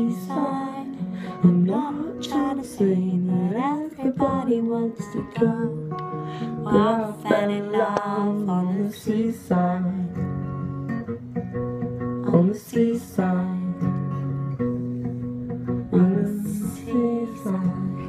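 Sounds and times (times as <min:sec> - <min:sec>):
strummed acoustic guitar song: 0:00.0 - 0:18.0.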